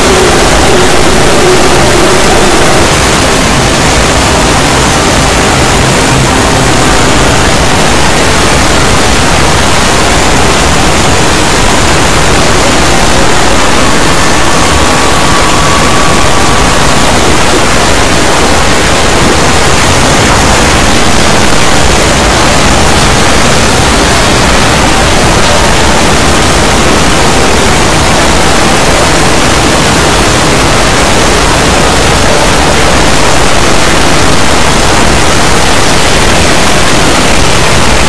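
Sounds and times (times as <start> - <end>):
harsh static-like noise: 0.0 - 38.0.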